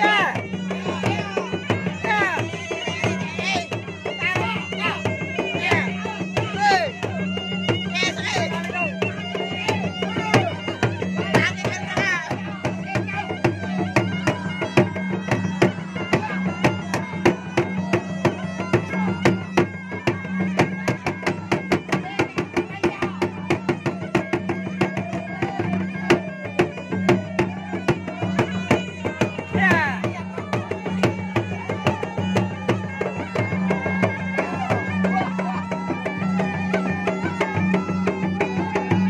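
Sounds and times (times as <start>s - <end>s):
drums beaten fast: 0.0s - 39.0s
nasal reed pipe melody: 0.0s - 39.0s.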